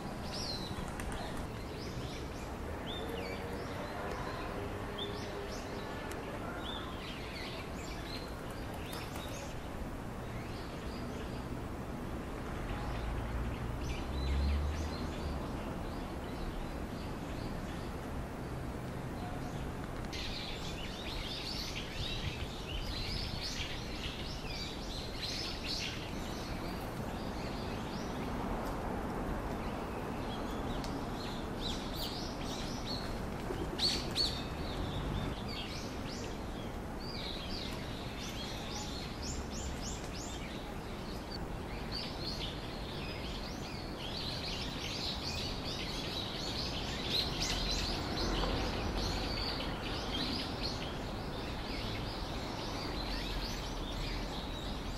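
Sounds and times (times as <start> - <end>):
small birds chirping: 0.0 - 11.6, 19.2 - 28.7, 29.4 - 54.9.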